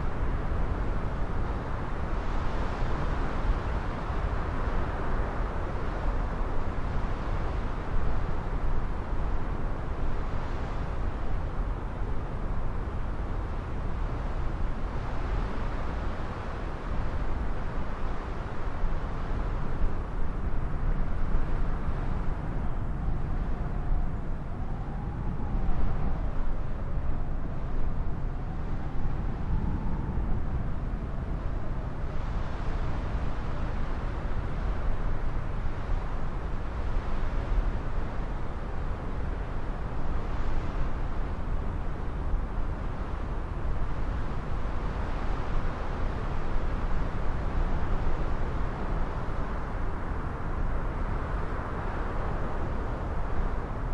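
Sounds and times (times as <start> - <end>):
wind rumbling on microphone: 0.0 - 53.9.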